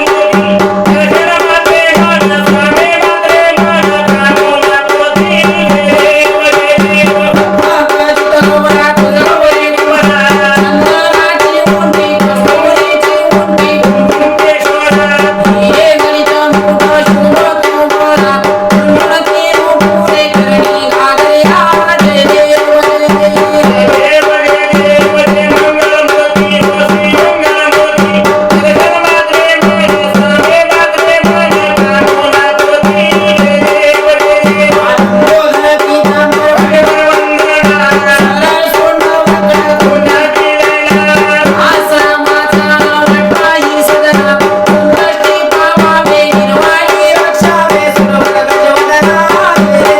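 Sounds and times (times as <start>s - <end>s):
stick-played folk drums: 0.0s - 49.9s.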